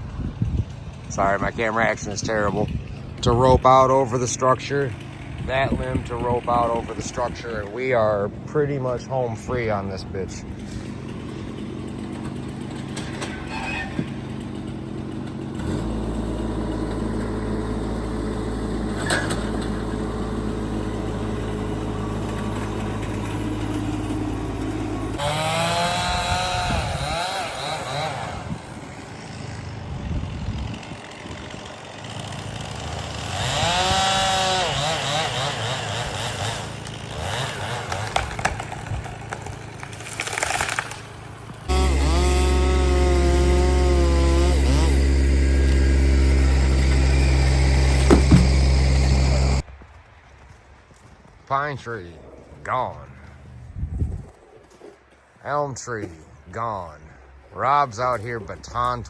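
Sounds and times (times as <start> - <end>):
chainsaw idling and revving: 0.0 - 49.7
loud steady engine: 0.0 - 49.7.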